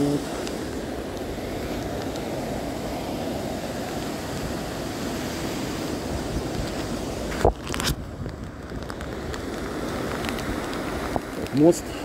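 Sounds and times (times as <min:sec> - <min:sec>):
mountain river rushing: 0:00.0 - 0:12.0
small waterfalls: 0:00.0 - 0:12.0.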